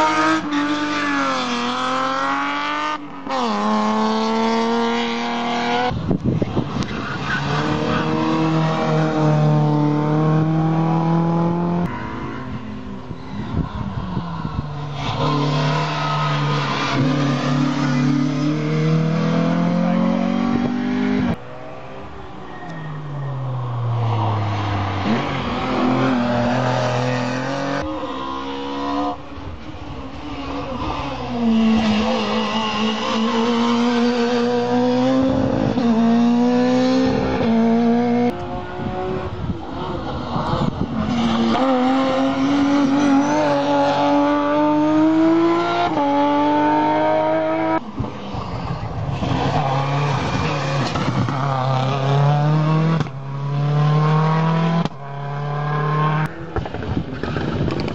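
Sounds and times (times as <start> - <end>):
racing cars accelerating hard: 0.0 - 21.4, 23.7 - 29.4, 30.1 - 57.9.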